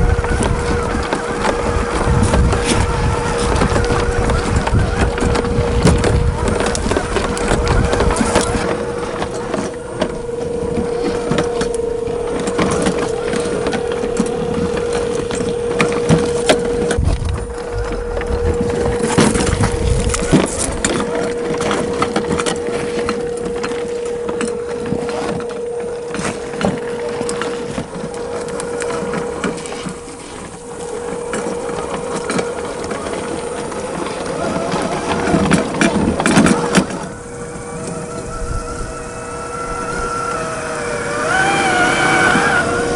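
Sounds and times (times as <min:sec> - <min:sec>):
toy car motor whine: 0:00.0 - 0:42.9
tyres crunching on dirt: 0:00.0 - 0:42.9.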